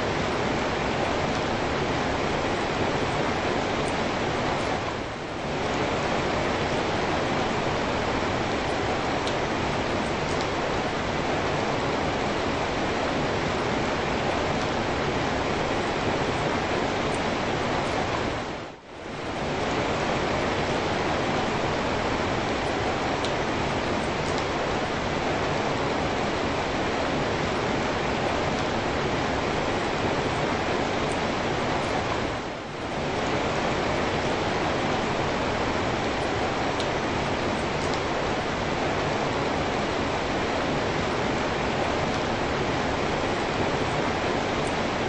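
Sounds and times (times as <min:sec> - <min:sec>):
rain falling: 0:00.0 - 0:45.0.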